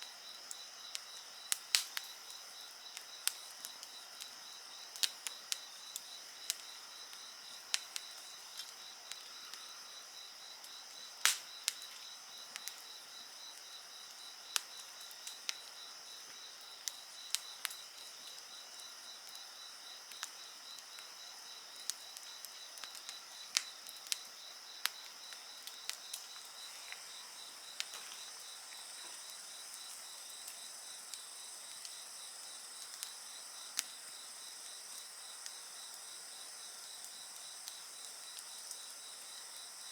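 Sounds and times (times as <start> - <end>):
wood fire crackling and popping: 0.0 - 39.4
insects chirping: 0.0 - 39.9.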